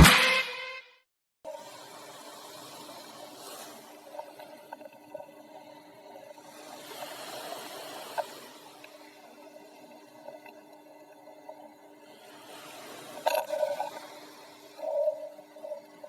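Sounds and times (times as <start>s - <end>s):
faint steady hum: 1.5s - 16.0s
muffled underwater hiss: 1.5s - 16.0s.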